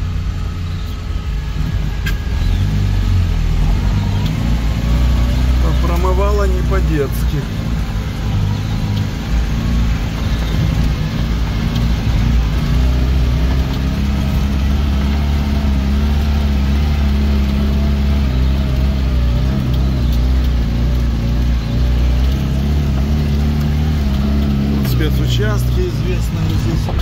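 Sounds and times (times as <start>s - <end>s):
off-road vehicle engine pulling: 0.0s - 27.0s.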